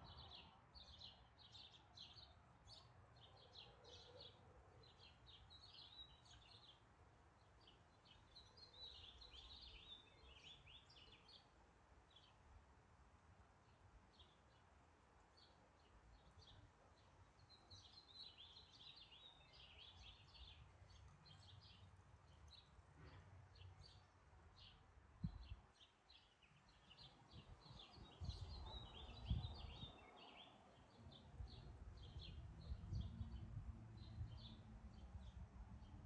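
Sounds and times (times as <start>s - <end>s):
small birds chirping: 0.0s - 12.5s, 13.6s - 36.0s.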